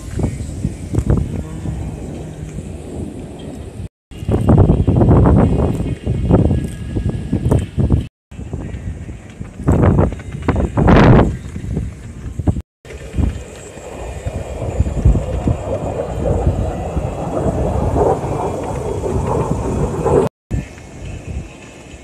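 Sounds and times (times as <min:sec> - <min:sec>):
jet engine rumble: 0:00.0 - 0:21.6.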